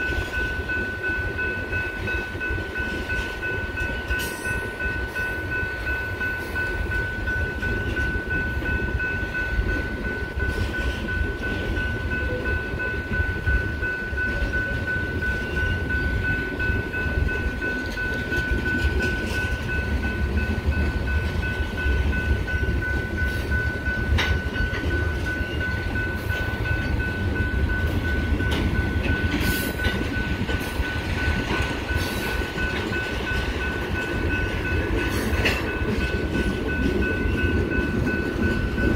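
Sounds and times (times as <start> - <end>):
crossing warning bell ringing: 0.0 - 38.9
train wheels rumbling on rails: 0.0 - 38.9.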